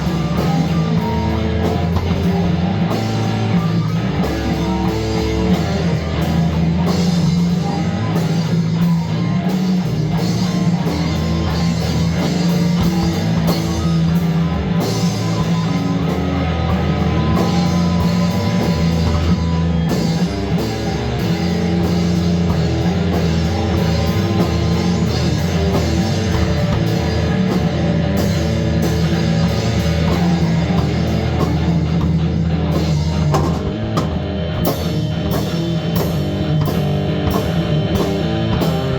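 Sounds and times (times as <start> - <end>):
heavy metal rock music: 0.0 - 38.9.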